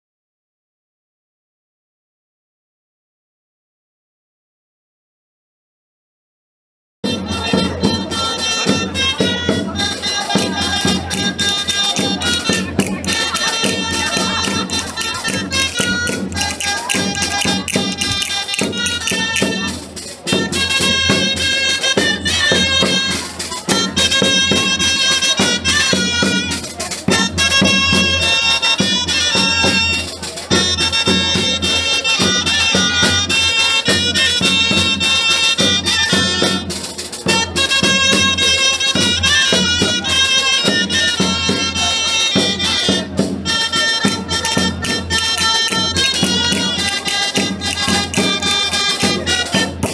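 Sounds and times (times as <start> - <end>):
rhythmic percussion: 7.0 - 49.9
shrill wind instrument melody: 7.0 - 49.9.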